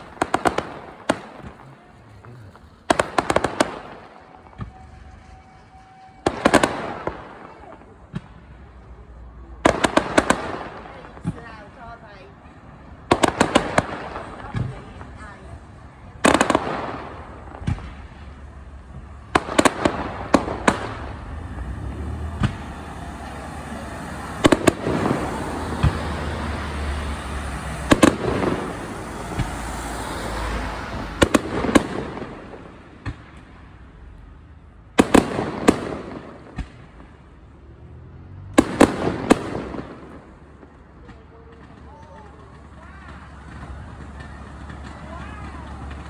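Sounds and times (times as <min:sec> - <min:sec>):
fireworks bangs: 0:00.0 - 0:46.0
fireworks crackling: 0:00.0 - 0:46.0.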